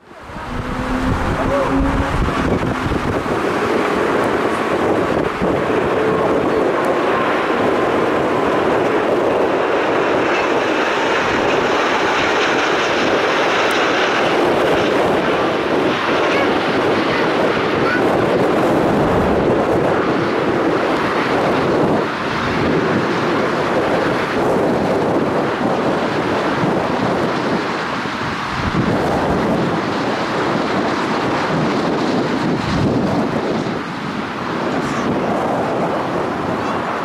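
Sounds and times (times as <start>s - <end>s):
jet engines roaring: 0.0s - 37.0s
wind buffeting microphone: 0.0s - 37.0s.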